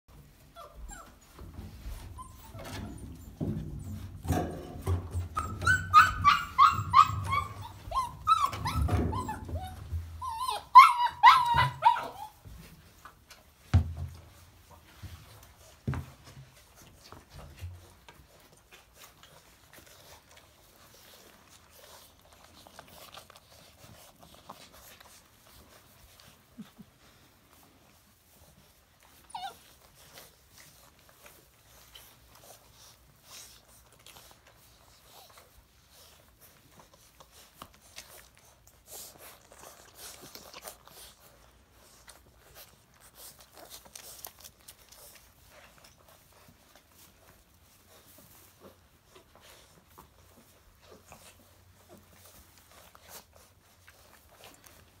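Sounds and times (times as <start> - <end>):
faint clicks and rustles: 0.1 - 55.0
puppies scuffling: 0.1 - 55.0.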